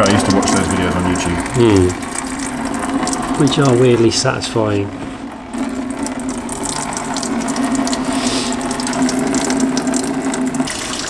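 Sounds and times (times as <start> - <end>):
liquid splashing into plastic container: 0.2 - 3.8, 5.4 - 11.0.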